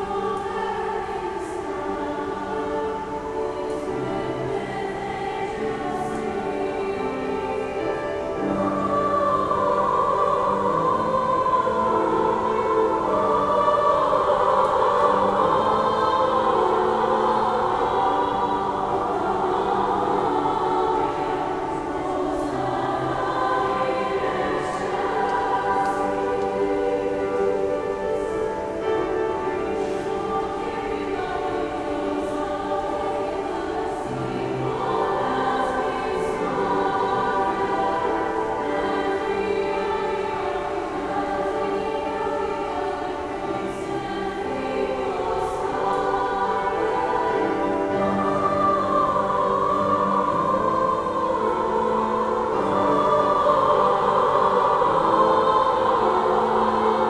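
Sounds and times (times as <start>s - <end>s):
girls choir singing: 0.0s - 57.0s.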